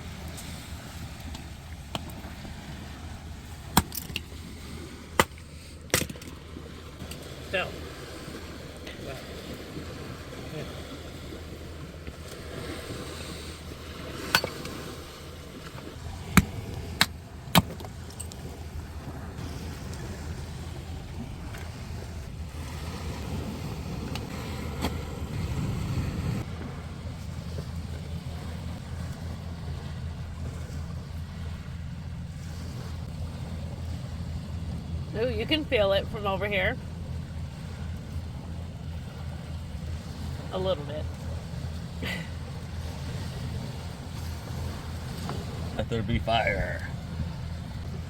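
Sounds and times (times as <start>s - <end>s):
surf on beach: 0.0s - 48.0s
wind: 0.0s - 48.0s.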